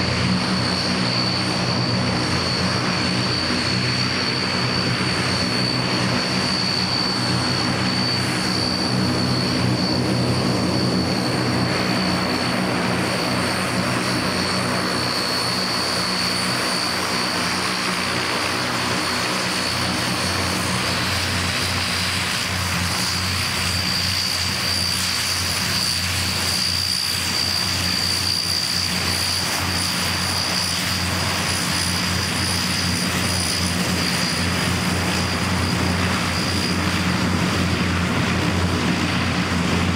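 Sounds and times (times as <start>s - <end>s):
turboprop engines running: 0.0s - 39.9s.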